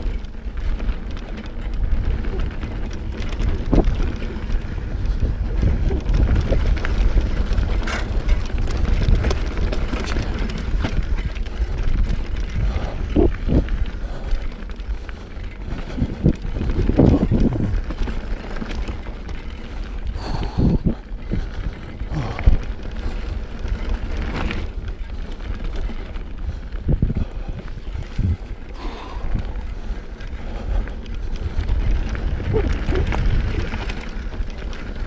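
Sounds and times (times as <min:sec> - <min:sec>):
bike rattling and knocking: 0:00.0 - 0:35.0
bike tyres over stones: 0:00.0 - 0:35.0
wind buffeting microphone: 0:00.0 - 0:35.0.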